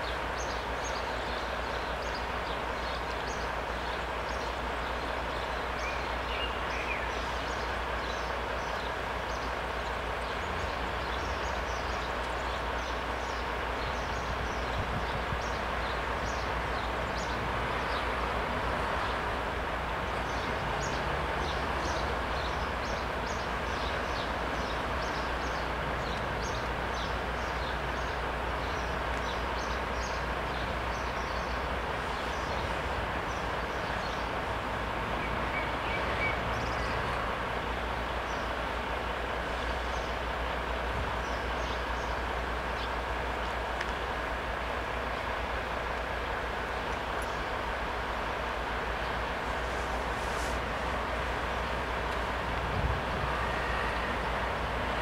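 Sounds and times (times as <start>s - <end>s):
vehicles idling rumble: 0.0s - 55.0s.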